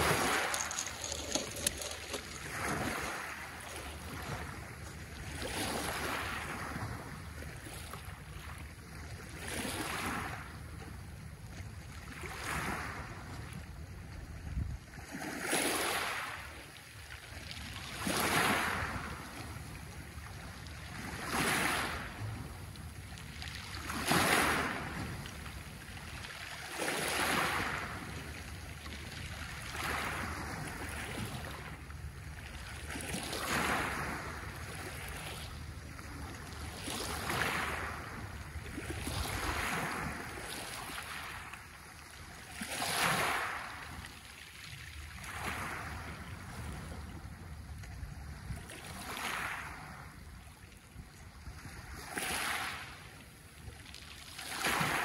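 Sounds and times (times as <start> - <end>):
waves washing over pebbles: 0.0 - 8.5, 9.4 - 10.8, 12.1 - 13.2, 15.2 - 47.7, 48.4 - 50.2, 51.4 - 55.0.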